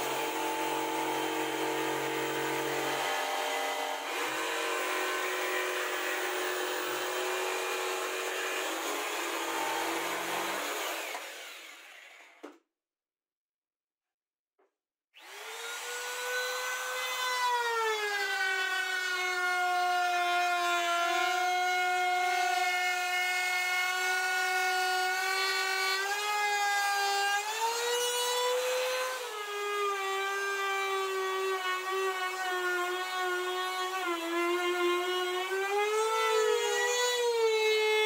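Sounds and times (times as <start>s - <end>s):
router motor whine cutting wood: 0.0s - 12.5s, 15.2s - 38.0s.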